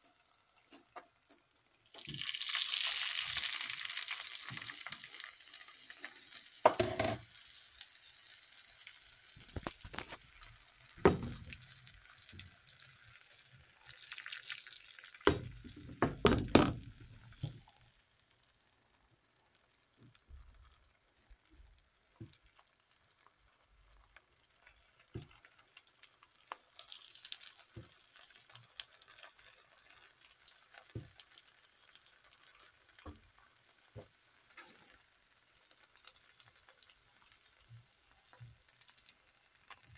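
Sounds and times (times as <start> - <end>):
eggs sizzling in a pan: 0.0 - 39.9.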